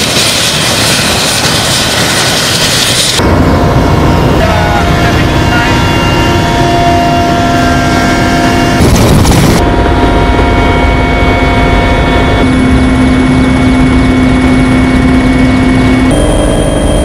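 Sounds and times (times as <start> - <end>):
helicopter rotor and engine rumble: 0.0 - 17.0
engine whining tones: 0.7 - 17.0.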